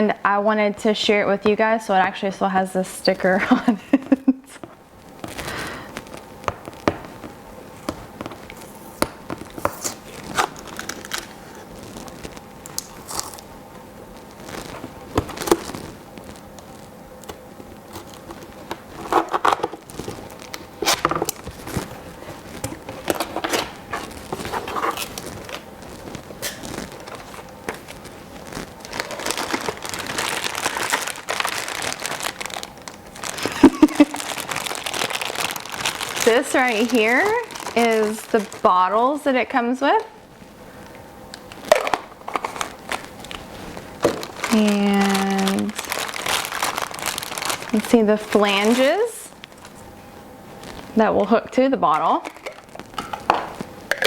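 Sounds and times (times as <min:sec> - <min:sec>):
plastic wrapping crinkling: 0:03.0 - 0:54.0.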